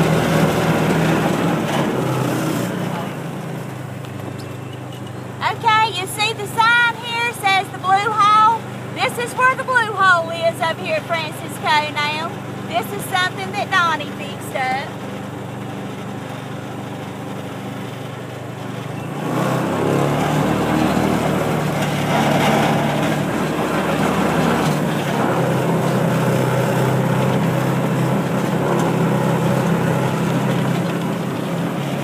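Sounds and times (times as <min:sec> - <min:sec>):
small vehicle engine running: 0:00.0 - 0:32.0.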